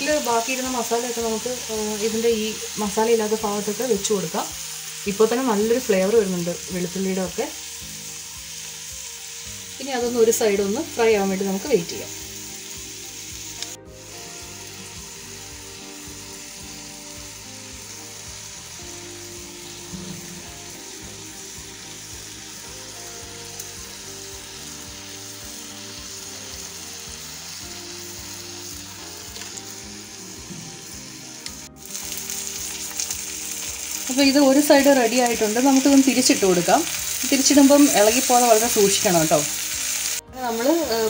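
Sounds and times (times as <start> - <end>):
fish sizzling in a pan: 0.0 - 41.0.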